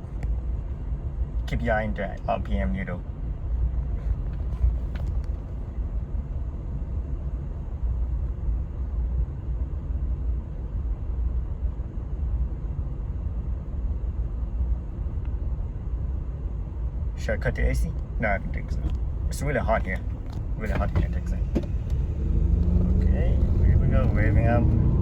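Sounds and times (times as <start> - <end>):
air conditioning running: 0.0 - 25.0.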